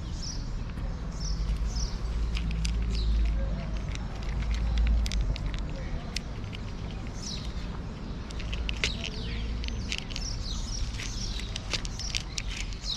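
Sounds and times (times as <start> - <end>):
birds chirping: 0.0 - 12.9
cat chewing dry kibble: 1.4 - 12.9.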